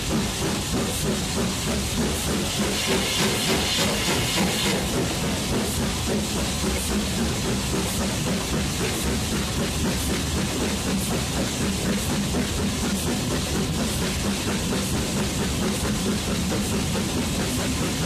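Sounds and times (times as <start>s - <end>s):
steam locomotive chuffing: 0.0s - 18.0s
train running on rails: 0.0s - 18.0s.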